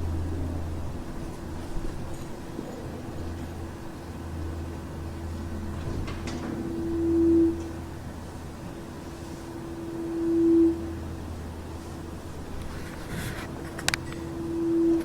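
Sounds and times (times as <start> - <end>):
low hum: 0.0 - 15.0
steady droning tone: 0.0 - 15.0.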